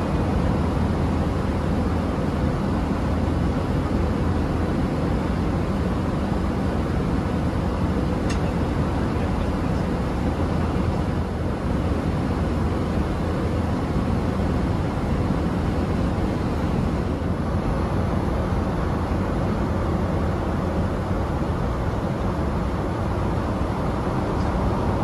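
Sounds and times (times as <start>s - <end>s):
airliner cabin noise: 0.0s - 25.0s.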